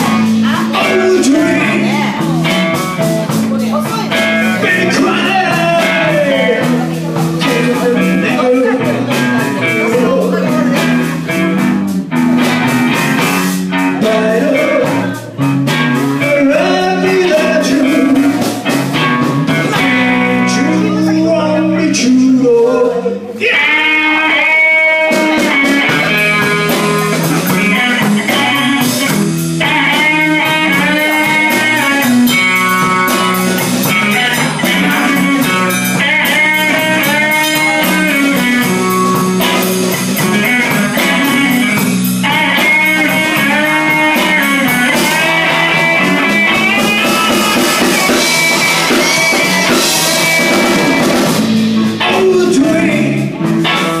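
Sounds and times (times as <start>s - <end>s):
blues-rock band playing: 0.0s - 54.0s
lead guitar bent notes: 0.0s - 54.0s.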